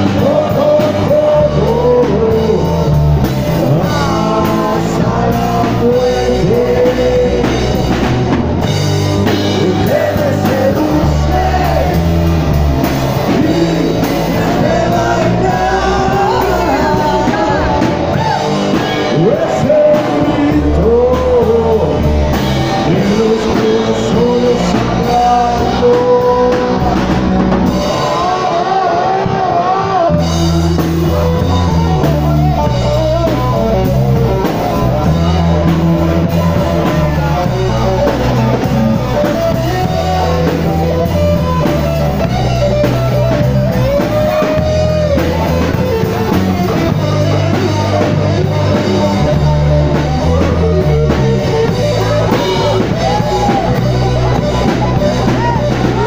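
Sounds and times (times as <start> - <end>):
bass guitar: 0.0 - 56.0
drums: 0.0 - 56.0
electric guitar lead with bent notes: 0.0 - 56.0.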